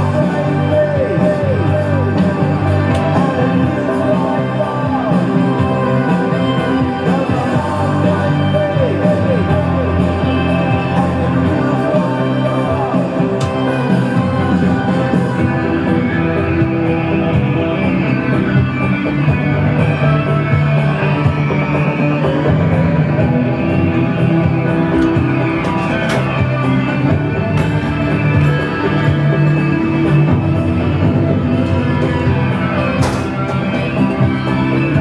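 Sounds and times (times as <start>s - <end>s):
person singing: 0.0s - 35.0s
rock music with electric guitar: 0.0s - 35.0s.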